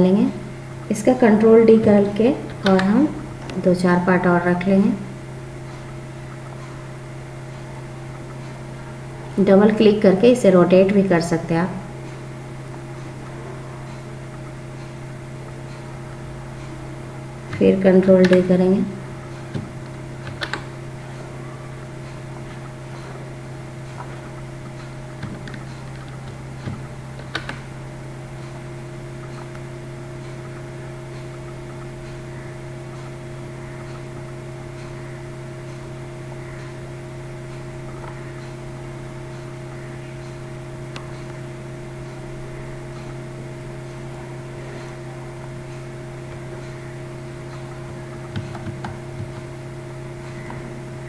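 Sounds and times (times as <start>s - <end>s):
steady electrical hum: 0.0s - 51.0s.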